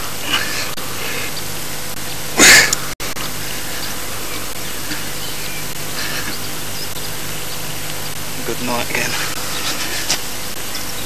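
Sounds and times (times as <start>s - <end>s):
faint hum: 0.0s - 11.0s
steady hiss: 0.0s - 11.0s.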